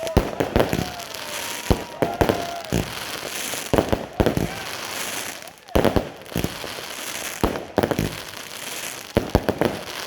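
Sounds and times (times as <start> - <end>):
firework bangs: 0.0 - 10.0.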